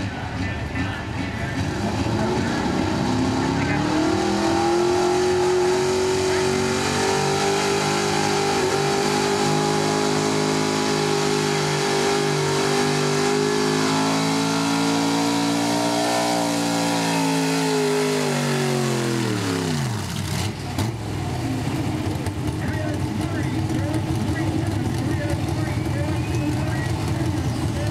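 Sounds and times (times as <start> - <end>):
truck engine revving hard: 0.0 - 27.9.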